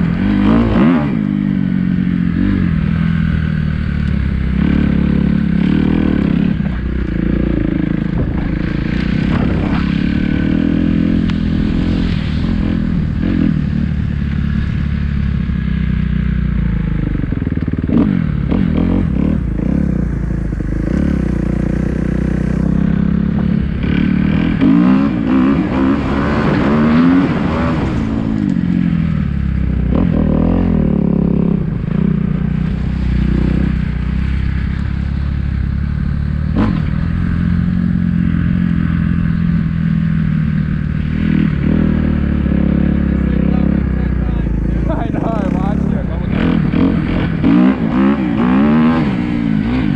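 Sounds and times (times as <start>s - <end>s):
dirt bike engine revving: 0.0s - 35.2s, 36.3s - 49.9s.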